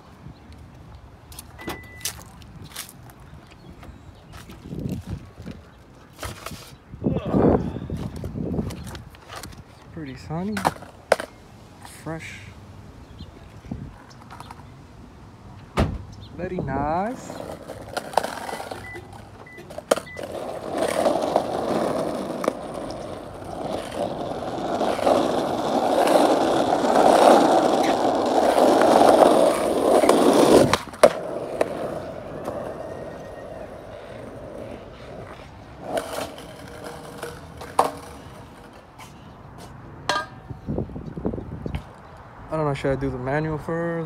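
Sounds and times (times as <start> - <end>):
skateboard wheels rolling on asphalt: 0.0 - 44.0.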